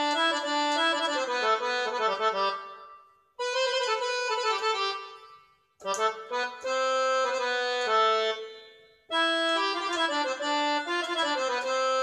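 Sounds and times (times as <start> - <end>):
electronic keyboard accordion tune: 0.0 - 12.0.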